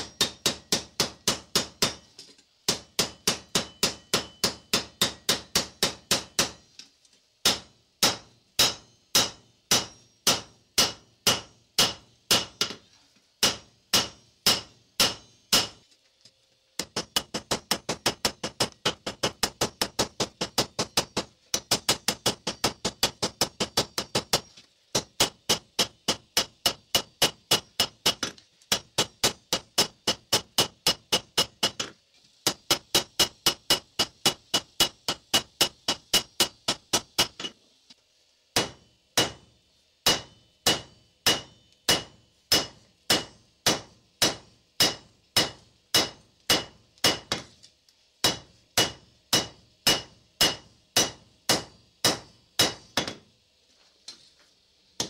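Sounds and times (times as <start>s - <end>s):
hammer striking steel on anvil: 0.0s - 6.7s, 7.4s - 12.8s, 13.4s - 15.8s, 16.8s - 37.6s, 38.6s - 47.5s, 48.2s - 53.2s.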